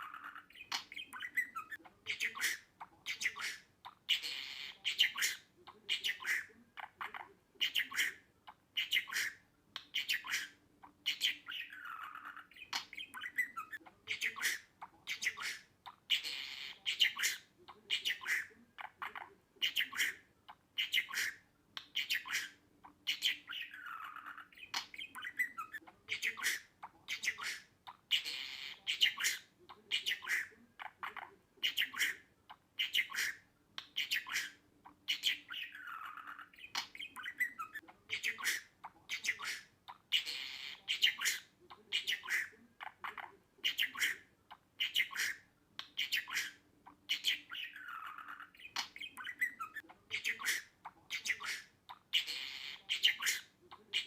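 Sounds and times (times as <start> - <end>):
budgerigar squawking and chirping: 0.0 - 54.0.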